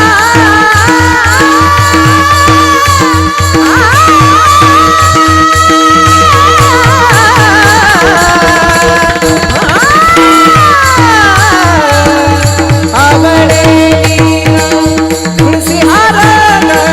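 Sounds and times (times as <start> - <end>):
hand drum beat: 0.0 - 16.9.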